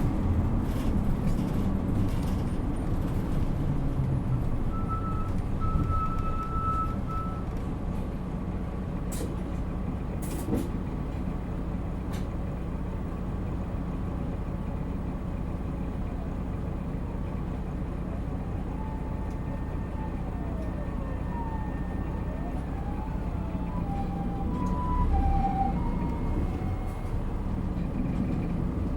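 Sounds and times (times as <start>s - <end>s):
bus diesel engine droning: 0.0s - 28.9s.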